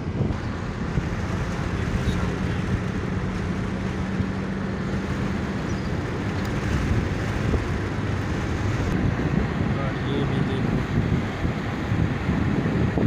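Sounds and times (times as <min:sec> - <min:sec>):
low engine hum: 0:00.0 - 0:13.0
road and wind noise: 0:00.0 - 0:13.0.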